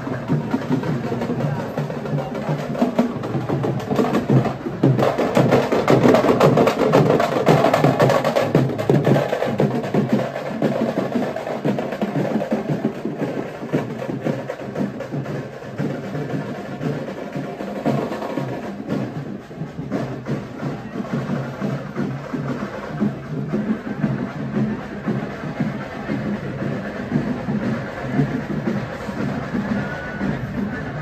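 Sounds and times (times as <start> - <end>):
fast drumming: 0.0 - 31.0.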